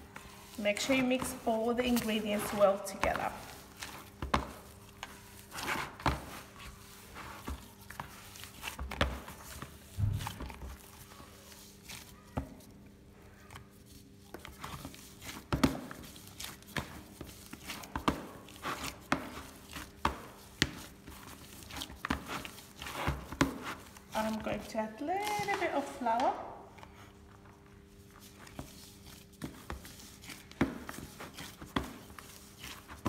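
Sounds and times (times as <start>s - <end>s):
dough squishing and thudding: 0.0s - 33.0s.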